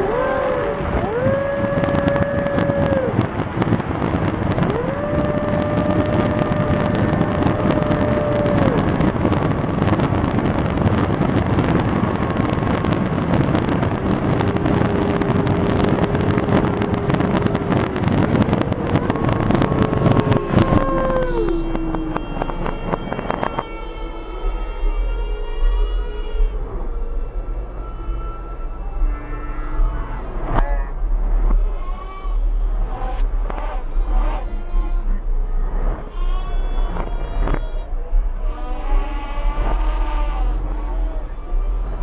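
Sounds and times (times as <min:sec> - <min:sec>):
long howling tones: 0:00.0 - 0:42.0
rumble and crackle of bursts: 0:00.0 - 0:42.0.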